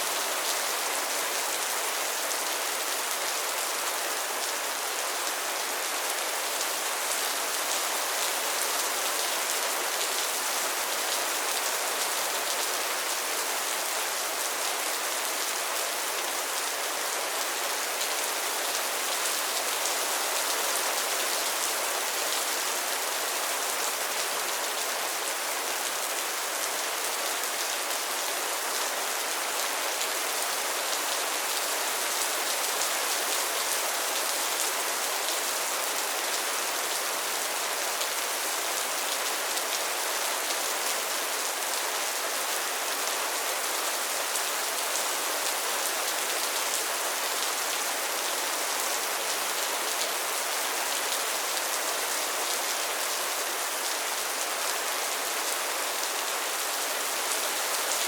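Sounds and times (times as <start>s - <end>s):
rain falling on pond: 0.0s - 58.0s.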